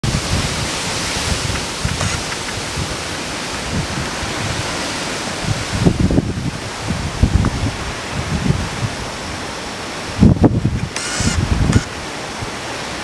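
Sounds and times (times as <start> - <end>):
gusty storm wind: 0.0 - 13.0
rain: 0.0 - 13.0
wind buffeting microphone: 0.0 - 13.0.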